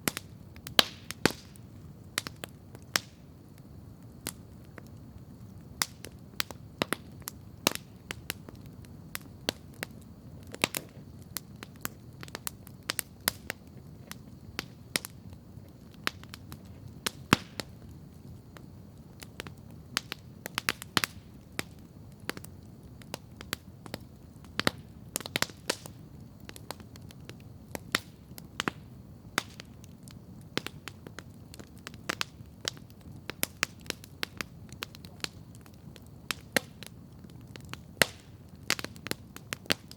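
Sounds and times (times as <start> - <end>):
campfire crackling and popping: 0.0 - 39.9
low steady background noise: 0.0 - 39.9.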